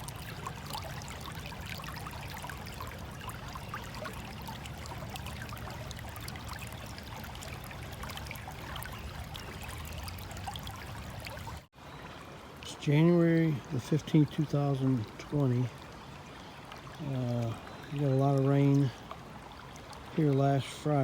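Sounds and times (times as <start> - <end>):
creek water babbling: 0.0 - 21.0.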